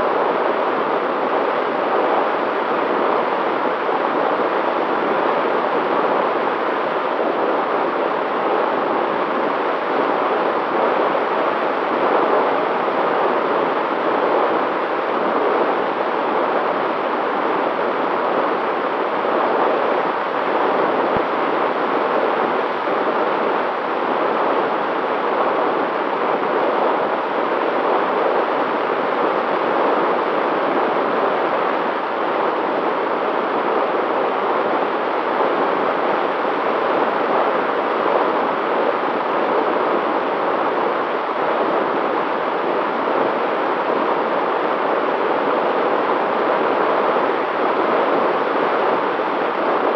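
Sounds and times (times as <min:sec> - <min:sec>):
faint steady whine: 0:00.0 - 0:49.9.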